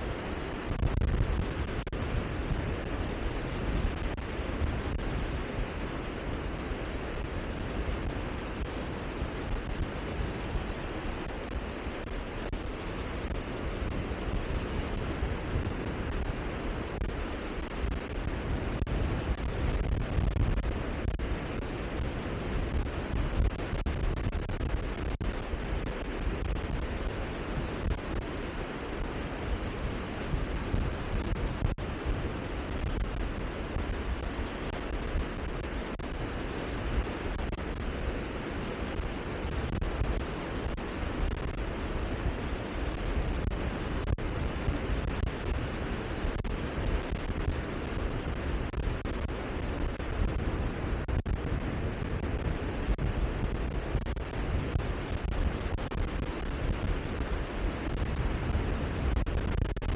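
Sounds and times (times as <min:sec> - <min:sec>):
rushing wind: 0:00.0 - 0:59.9
sea: 0:00.0 - 0:59.9
wind rumbling on microphone: 0:00.0 - 0:59.9.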